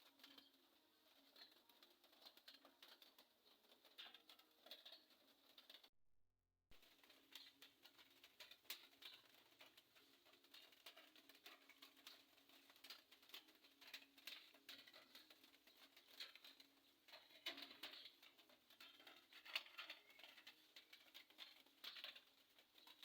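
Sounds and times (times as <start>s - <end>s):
faint irregular ticks: 0.0s - 5.9s, 6.7s - 23.0s.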